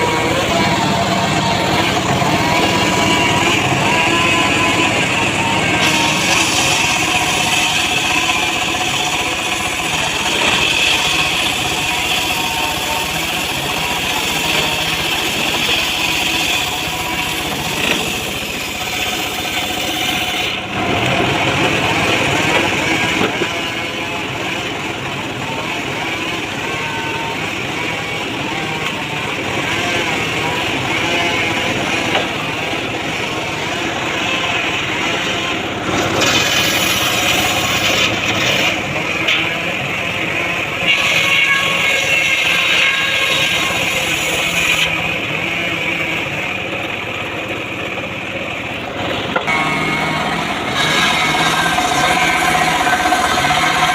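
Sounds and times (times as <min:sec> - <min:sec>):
circular saw cutting wood: 0:00.0 - 0:53.9
engine running: 0:00.0 - 0:53.9.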